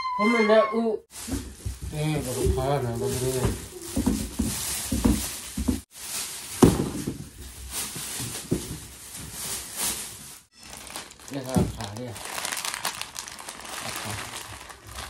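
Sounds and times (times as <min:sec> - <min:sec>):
plastic wrapping crinkling: 0:01.1 - 0:15.0.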